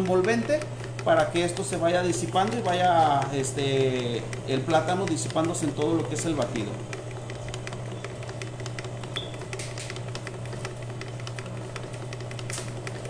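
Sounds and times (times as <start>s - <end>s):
stand mixer humming: 0.0s - 13.0s.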